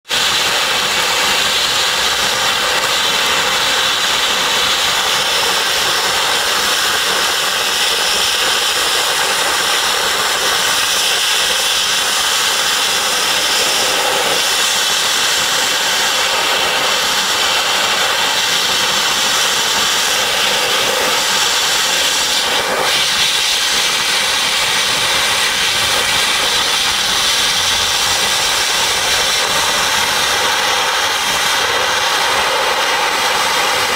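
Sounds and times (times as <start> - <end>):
dry ice blaster hissing: 0.0 - 33.9.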